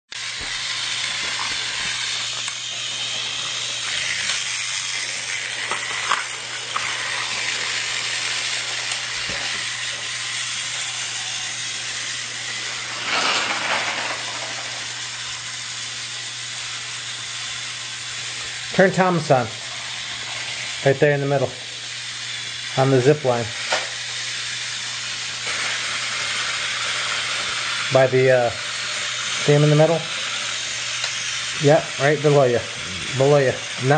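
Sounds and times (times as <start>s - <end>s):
steady hiss: 0.1s - 33.9s.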